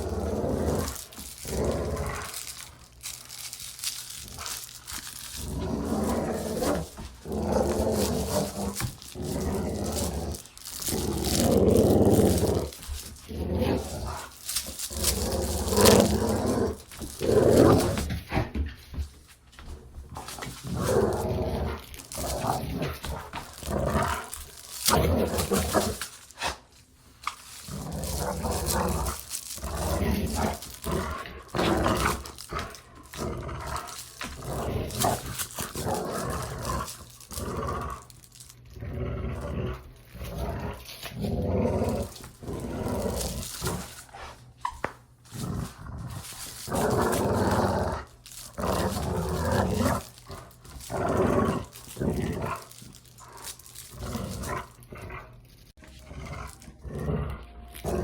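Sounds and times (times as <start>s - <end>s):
dog growling in play: 0.0s - 18.8s, 20.1s - 26.6s, 27.5s - 58.0s.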